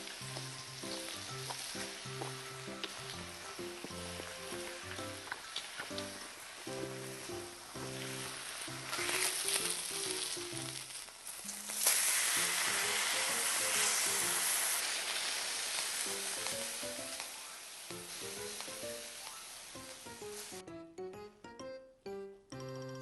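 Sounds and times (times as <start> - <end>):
light background music: 0.0 - 14.8, 15.9 - 23.0
meat sizzling on a grill: 0.0 - 20.6.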